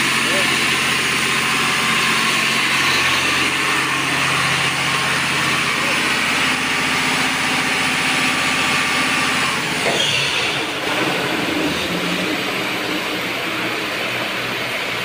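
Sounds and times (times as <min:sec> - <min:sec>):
diesel pump engine running: 0:00.0 - 0:15.0
steady whirring: 0:02.0 - 0:15.0.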